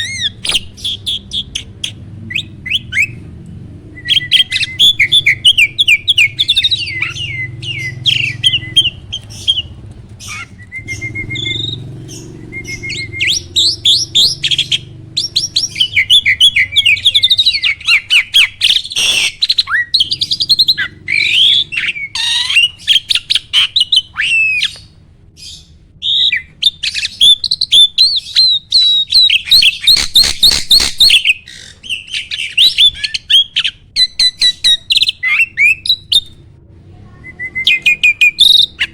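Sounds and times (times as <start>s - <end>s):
starling singing: 0.0s - 36.4s, 37.2s - 38.9s.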